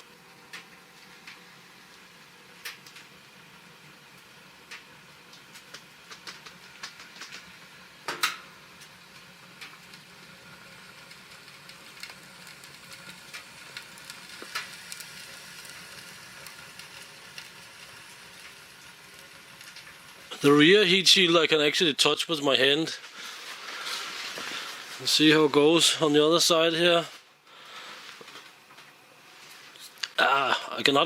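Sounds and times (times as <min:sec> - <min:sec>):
wood fire crackling in stove: 0:00.0 - 0:31.0.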